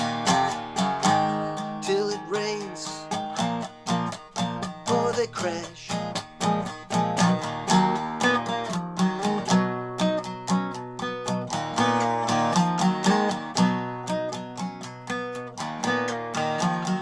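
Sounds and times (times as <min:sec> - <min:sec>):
guitar picked and strummed: 0:00.0 - 0:17.0.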